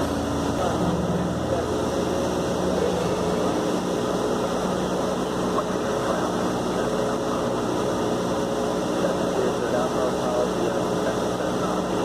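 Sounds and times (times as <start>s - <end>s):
aircraft engine and propeller drone: 0.0s - 12.0s.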